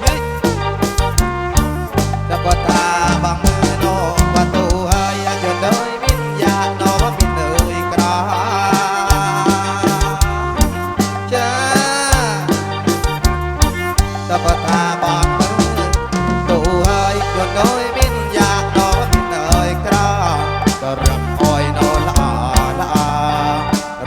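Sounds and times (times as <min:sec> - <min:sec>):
amplified band playing: 0:00.0 - 0:24.0
heavy bass: 0:00.0 - 0:24.0
pitch-bending lead melody: 0:00.0 - 0:24.0
steady drum beat: 0:00.0 - 0:24.0.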